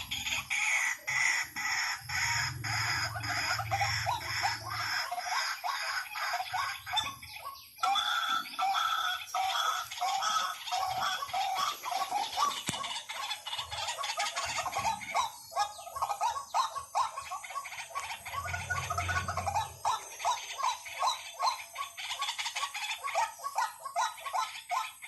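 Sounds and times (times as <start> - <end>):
bird croaking calls: 0.0 - 25.0.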